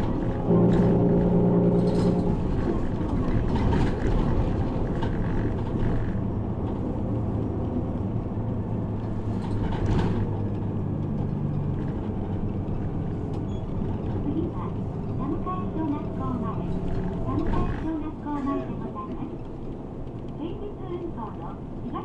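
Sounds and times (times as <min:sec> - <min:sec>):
rattles and bumps: 0:00.0 - 0:20.3
bus diesel engine running: 0:00.0 - 0:22.0
road noise: 0:00.0 - 0:22.0.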